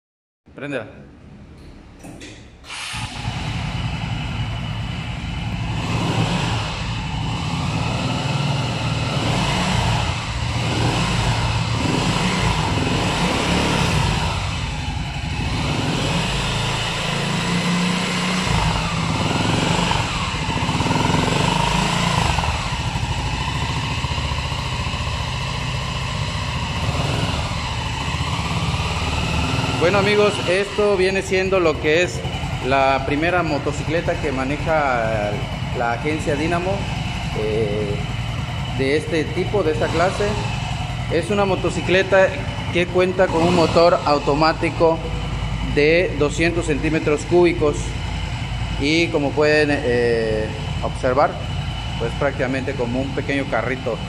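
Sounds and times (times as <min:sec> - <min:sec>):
single-cylinder engine running: 0:02.0 - 0:54.0.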